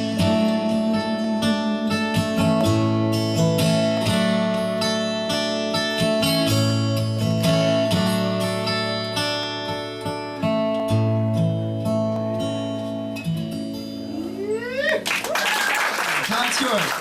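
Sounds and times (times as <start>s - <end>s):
acoustic guitar strumming chords: 0.0s - 14.7s.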